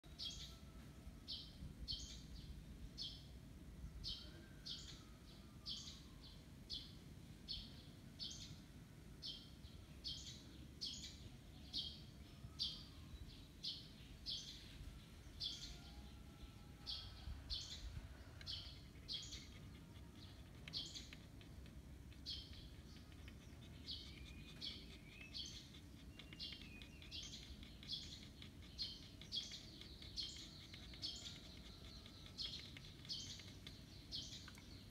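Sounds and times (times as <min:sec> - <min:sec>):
bird chirping: 0:00.0 - 0:34.9
faint calls of other birds: 0:00.0 - 0:34.9.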